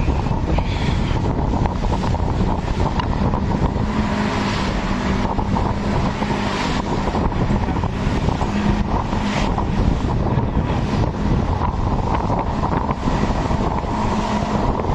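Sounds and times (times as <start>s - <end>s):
boat engine running: 0.0s - 14.9s
wind buffeting microphone: 0.0s - 14.9s.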